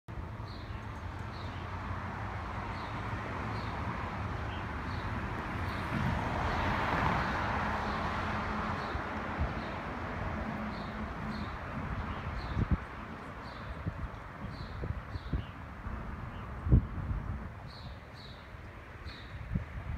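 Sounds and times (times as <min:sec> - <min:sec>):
outdoor background noise: 0:00.1 - 0:19.9.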